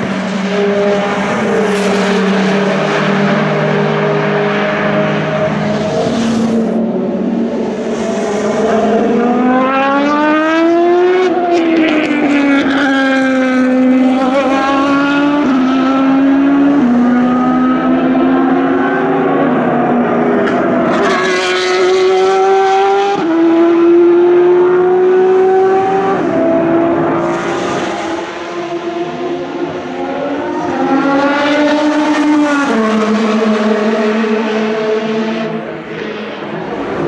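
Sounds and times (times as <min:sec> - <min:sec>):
racing cars passing at full throttle: 0:00.0 - 0:37.0.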